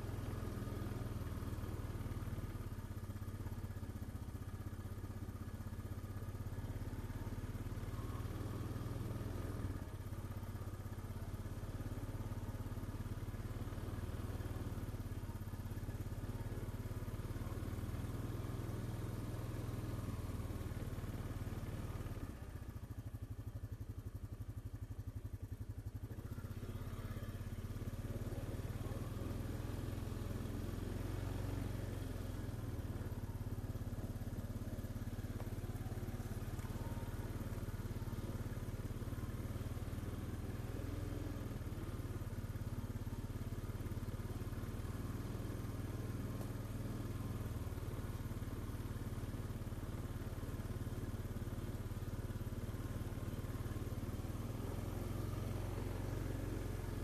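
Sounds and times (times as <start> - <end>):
small engine running steadily: 0.0 - 57.0.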